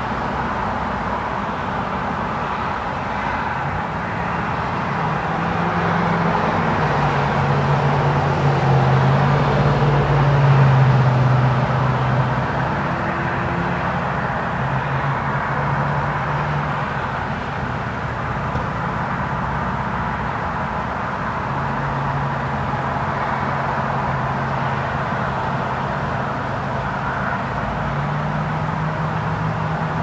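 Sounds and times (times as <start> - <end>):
passing vehicle engine hum: 0.0 - 30.0
road traffic: 0.0 - 30.0.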